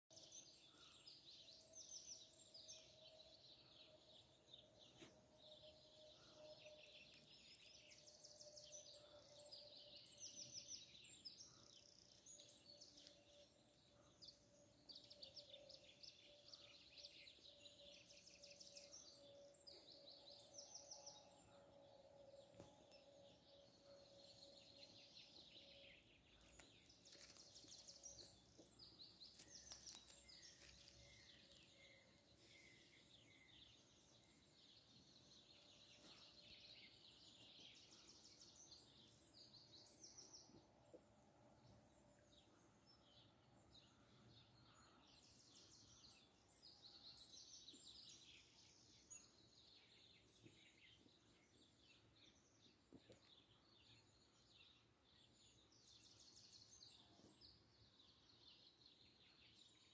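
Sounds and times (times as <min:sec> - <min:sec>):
small birds chirping: 0:00.1 - 0:59.9.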